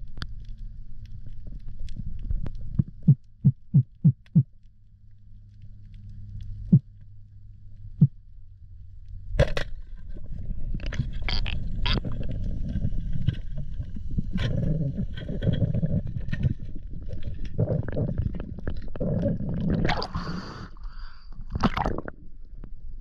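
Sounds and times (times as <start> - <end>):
low underwater hum: 0.0 - 23.0.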